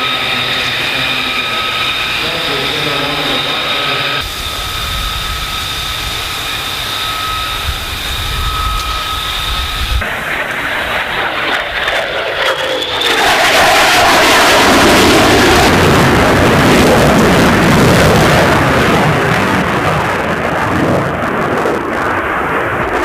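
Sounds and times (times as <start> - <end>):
jet engine whine and roar: 0.0 - 23.0.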